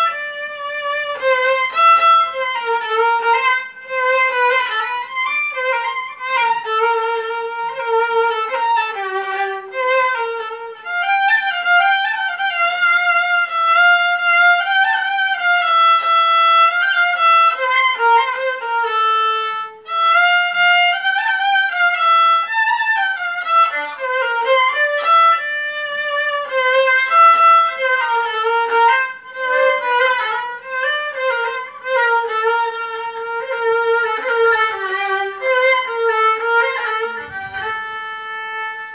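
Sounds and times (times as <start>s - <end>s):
solo violin melody: 0.0s - 38.9s.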